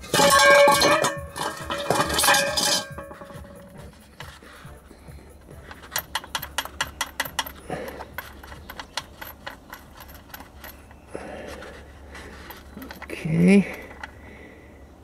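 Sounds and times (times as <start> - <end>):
metal clinks: 0.0 - 4.1, 5.3 - 14.2.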